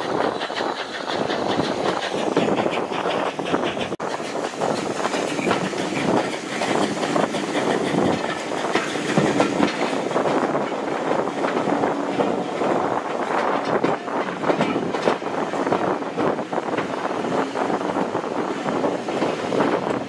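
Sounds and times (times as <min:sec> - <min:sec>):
train wheels clicking on rails: 0:00.0 - 0:20.0.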